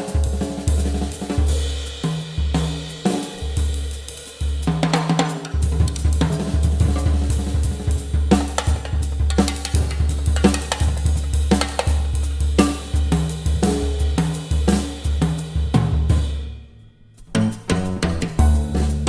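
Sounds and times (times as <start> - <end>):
drum kit solo: 0.0 - 16.6, 17.2 - 19.0.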